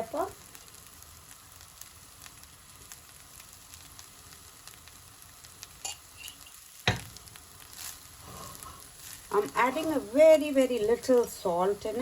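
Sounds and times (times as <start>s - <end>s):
fried rice sizzling in a pan: 0.0s - 12.0s.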